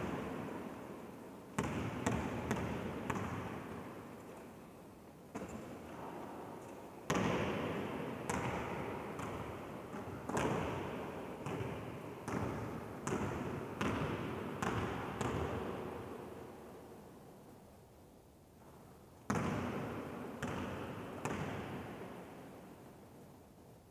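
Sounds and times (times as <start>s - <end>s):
basketball bouncing in echoing hall: 0.0s - 4.6s, 5.3s - 17.0s, 18.6s - 22.8s.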